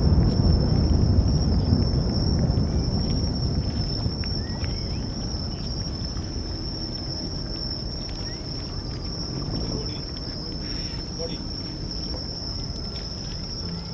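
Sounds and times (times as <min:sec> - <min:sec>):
crickets chirring: 0:00.0 - 0:13.9
low rumbling background noise: 0:00.0 - 0:13.9.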